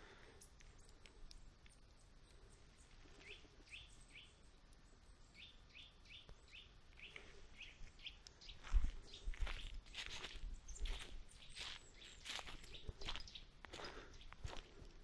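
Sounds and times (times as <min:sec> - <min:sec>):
small bird chirping: 0:00.3 - 0:14.6.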